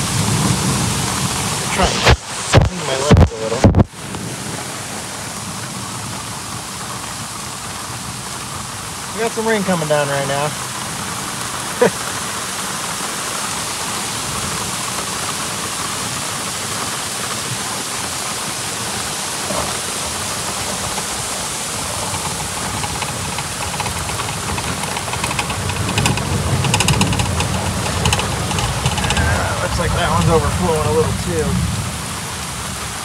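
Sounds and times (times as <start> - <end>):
heavy rain falling: 0.0 - 33.0
raindrops hitting microphone: 0.0 - 33.0
runoff water pouring: 0.0 - 33.0.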